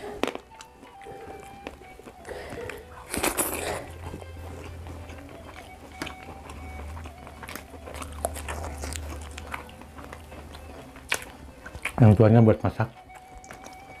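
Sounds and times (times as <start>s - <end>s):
mouth smacking: 0.0s - 12.1s, 12.9s - 14.0s
chewing: 0.0s - 14.0s
low steady hum: 0.0s - 14.0s.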